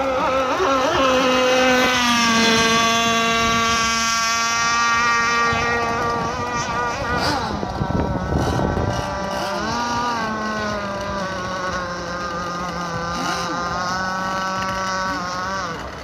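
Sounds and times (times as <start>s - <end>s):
model boat engine at high revs: 0.0s - 16.0s.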